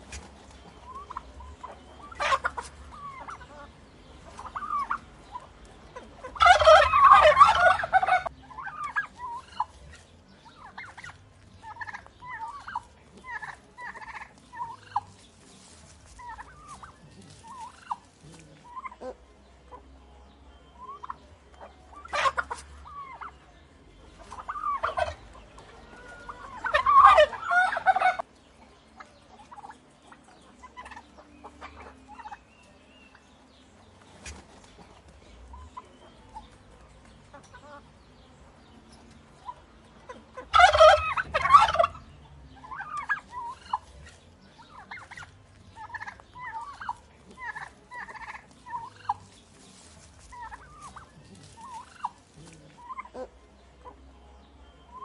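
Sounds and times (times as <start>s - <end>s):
turkeys gobbling: 0.0s - 55.0s.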